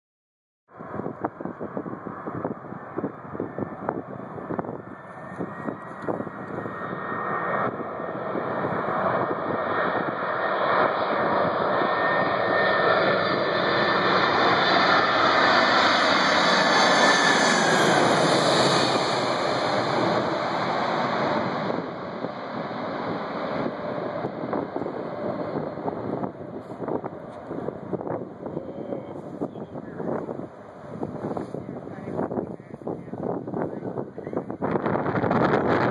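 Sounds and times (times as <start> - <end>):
jet engines passing overhead: 0.7 - 35.9.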